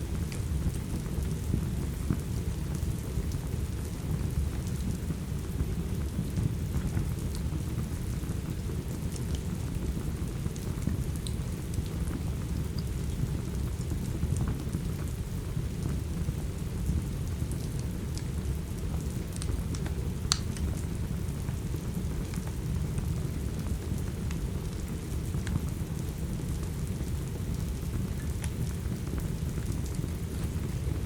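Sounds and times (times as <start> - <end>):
steady rain: 0.0 - 31.0
wood fire crackling: 0.1 - 31.0.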